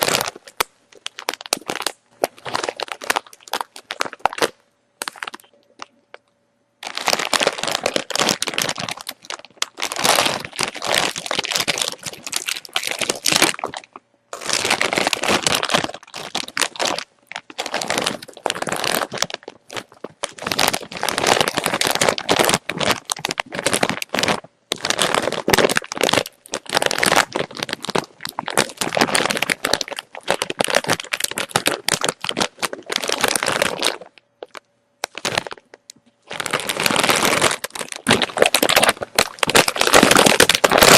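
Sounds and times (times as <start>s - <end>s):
potato chips crunching: 0.0s - 6.2s, 6.8s - 40.9s.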